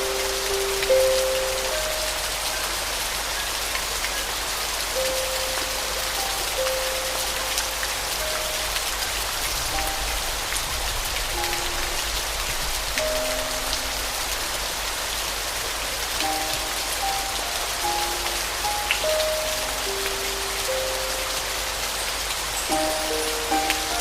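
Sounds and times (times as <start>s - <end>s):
soft piano melody: 0.0s - 24.0s
steady rain: 0.0s - 24.0s.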